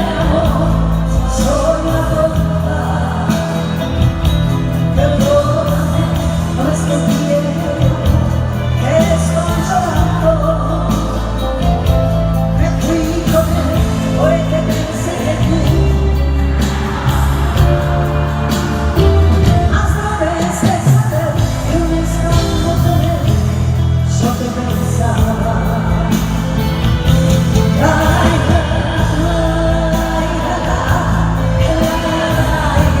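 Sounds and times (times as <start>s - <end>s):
band playing pop ballad live: 0.0s - 33.0s
person singing: 0.0s - 33.0s.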